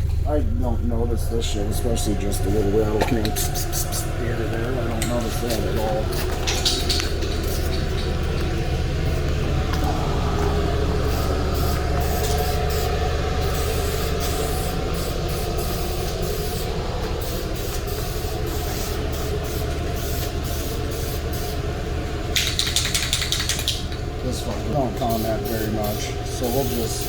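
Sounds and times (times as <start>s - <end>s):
ventilation fan drone: 0.0s - 27.0s.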